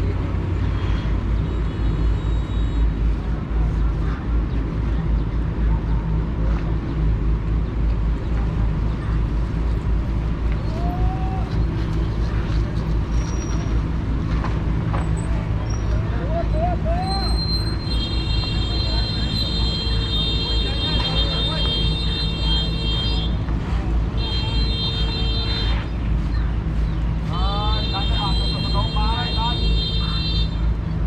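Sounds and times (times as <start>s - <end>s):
faint voices: 2.8s - 30.9s.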